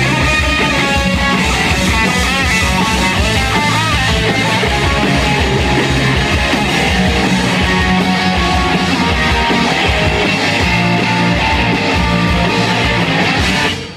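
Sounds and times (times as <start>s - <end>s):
bass guitar: 0.0s - 13.9s
drum kit: 0.0s - 13.9s
electric guitars: 0.0s - 13.9s.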